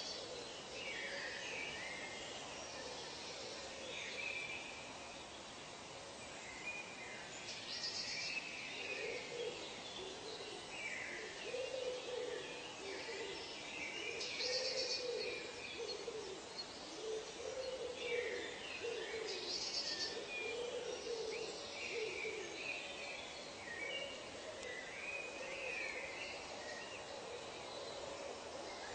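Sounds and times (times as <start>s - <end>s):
birds chirping and twittering: 0.0s - 28.9s.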